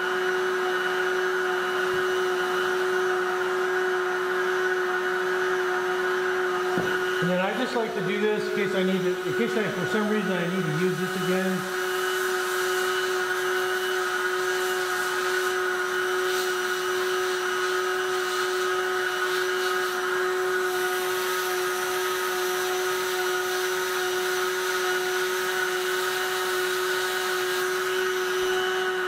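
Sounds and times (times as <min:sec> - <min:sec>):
heat gun motor whine: 0:00.0 - 0:29.0
rush of hot air: 0:05.3 - 0:29.0.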